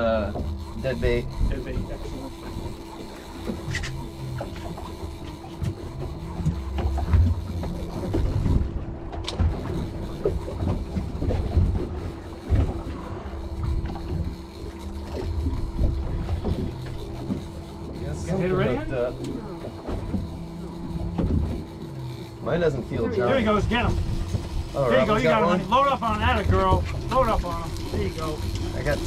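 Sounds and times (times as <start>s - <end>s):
fishing reel clicks: 0.0s - 8.6s, 9.2s - 29.0s
steady low hum: 0.0s - 29.0s.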